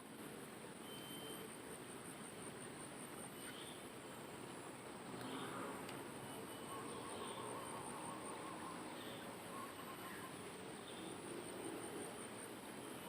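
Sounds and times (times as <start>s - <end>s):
insects trilling: 0.8s - 13.0s.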